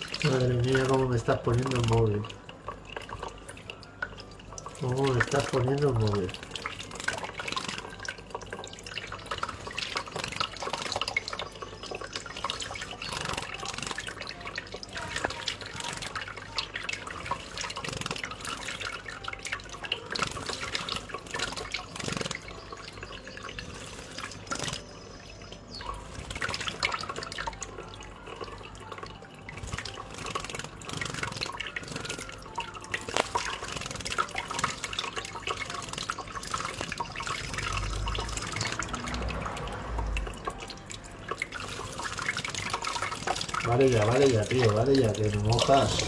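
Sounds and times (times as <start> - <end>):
bird splashing water: 0.0 - 46.0
tap water running: 0.0 - 46.0.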